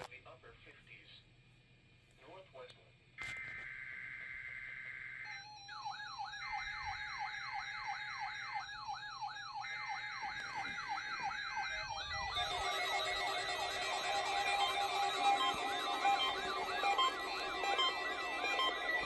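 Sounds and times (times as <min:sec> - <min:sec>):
weather radio warning alarm: 0:03.2 - 0:19.0.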